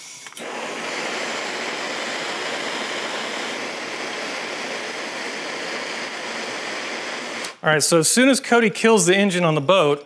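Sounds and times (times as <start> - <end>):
gas torch hissing: 0.0 - 8.3.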